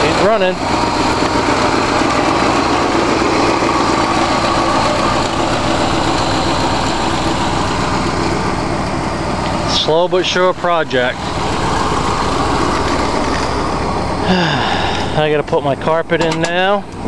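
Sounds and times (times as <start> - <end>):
engine idling: 0.0 - 17.0
exhaust leaks: 0.0 - 17.0.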